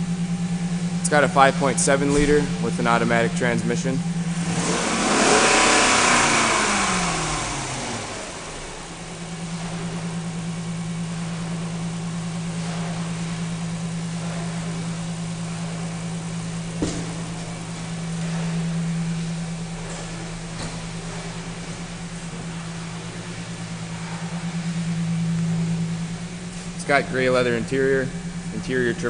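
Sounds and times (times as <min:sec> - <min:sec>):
car engine revving down to idle: 0:00.0 - 0:29.0.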